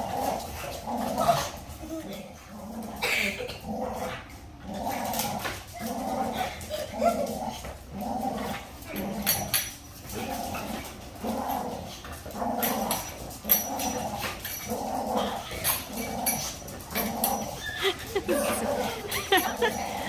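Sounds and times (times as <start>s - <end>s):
dog play-growling: 0.0s - 20.0s.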